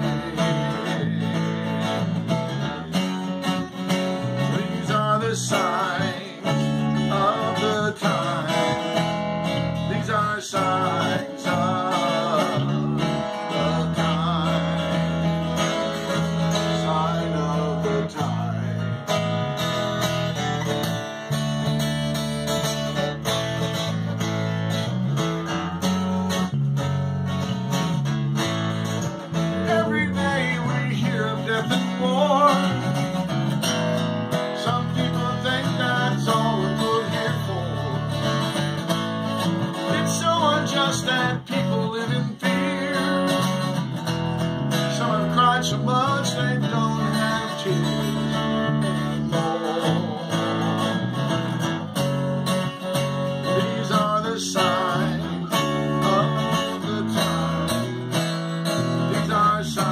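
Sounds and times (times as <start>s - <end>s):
acoustic guitar strummed: 0.0s - 59.9s
electric bass guitar: 0.0s - 59.9s.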